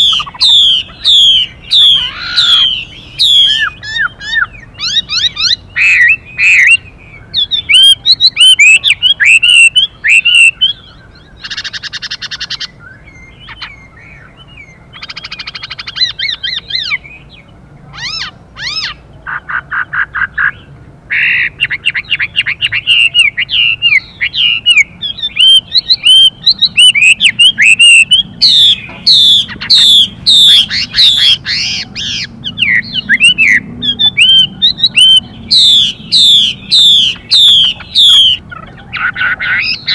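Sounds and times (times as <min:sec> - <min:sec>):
bird singing whistled phrases: 0:00.0 - 0:17.3, 0:21.3 - 0:39.9
harsh buzzy rattling bird calls: 0:00.0 - 0:39.9.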